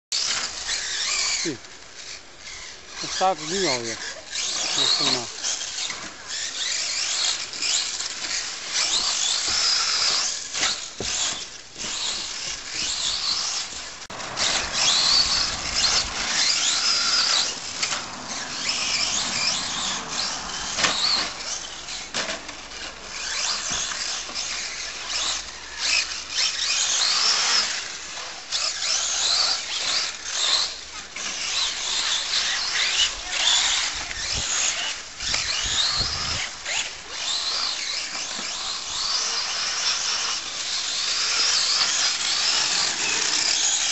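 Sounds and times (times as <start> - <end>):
rc truck motors whining: 0.1 - 43.9.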